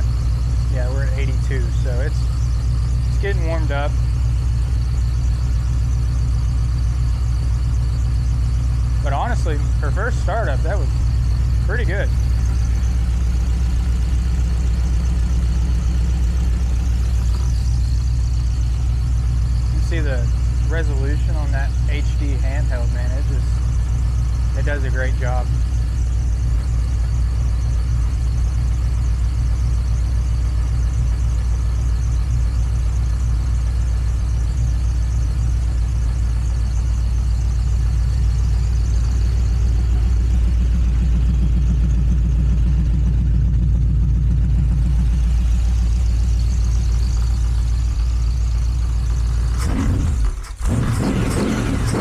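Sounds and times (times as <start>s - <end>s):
engine revving: 0.0s - 31.3s, 35.8s - 52.0s
car engine idling: 0.0s - 52.0s.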